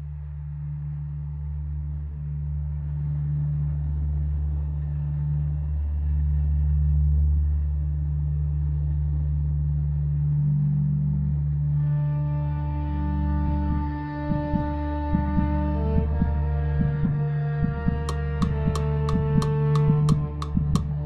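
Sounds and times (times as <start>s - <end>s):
low rumbling drone: 0.0s - 21.0s.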